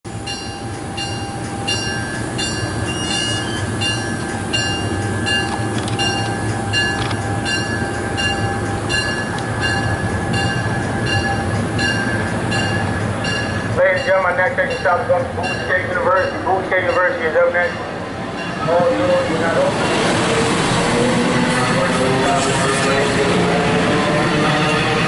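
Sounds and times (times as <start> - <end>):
train wheels rumbling on rails: 0.1 - 25.0.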